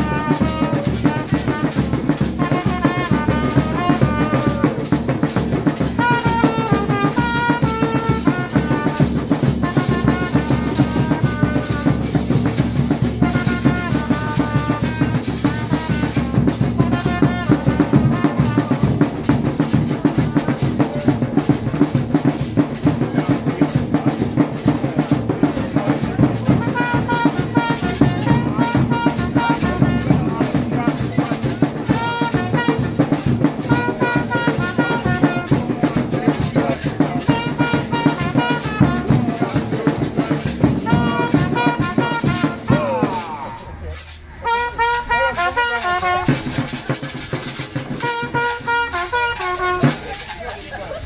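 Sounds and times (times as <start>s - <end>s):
drums beaten in dense rhythm: 0.0s - 51.0s
trumpet phrases: 0.0s - 51.0s.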